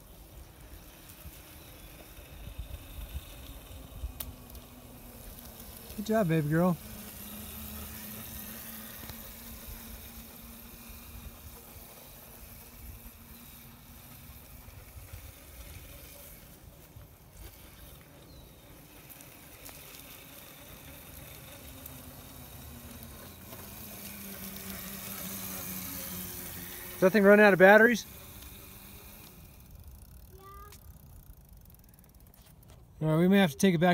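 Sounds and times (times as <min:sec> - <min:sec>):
electric dirt bike motor hum: 0:00.0 - 0:32.6.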